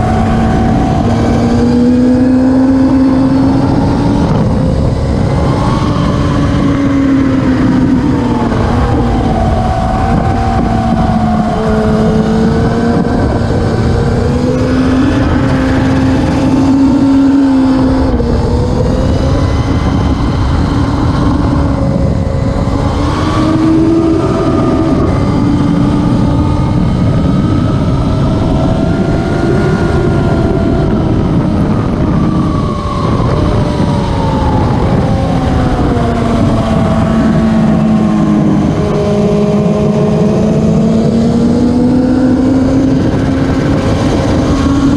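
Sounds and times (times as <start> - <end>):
racing motorcycle engines: 0.0 - 44.9.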